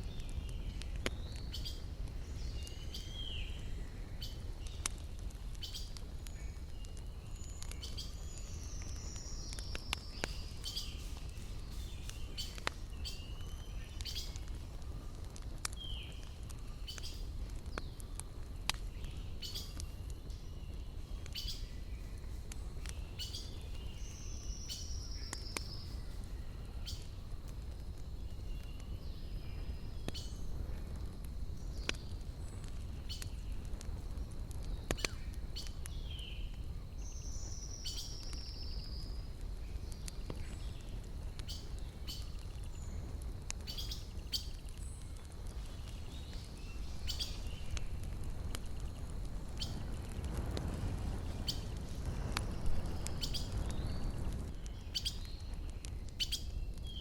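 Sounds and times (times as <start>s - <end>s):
campfire crackling: 0.0s - 57.0s
small birds chirping: 0.0s - 57.0s.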